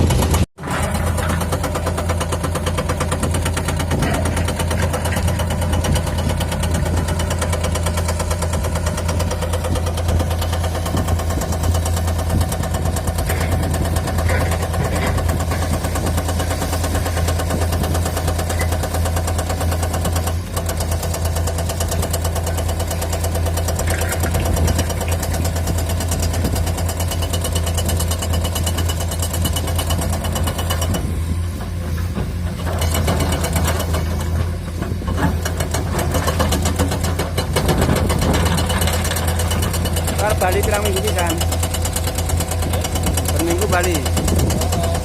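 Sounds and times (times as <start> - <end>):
excavator diesel engine knocking: 0.0 - 45.0.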